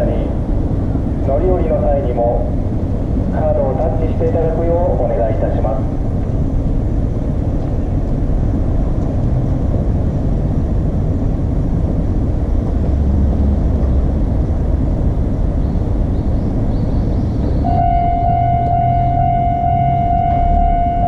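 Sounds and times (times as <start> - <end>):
low rumble of street noise: 0.0 - 21.0.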